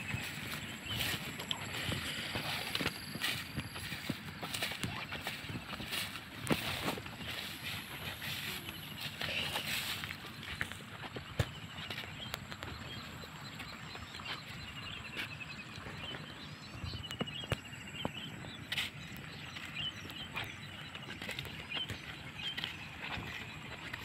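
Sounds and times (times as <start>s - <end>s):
footsteps on dirt path: 0.0s - 24.0s.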